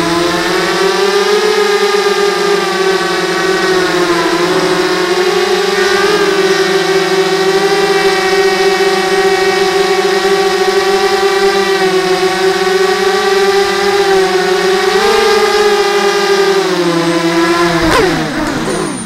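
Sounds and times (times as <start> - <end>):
drone motors and propellers whining: 0.0 - 19.0.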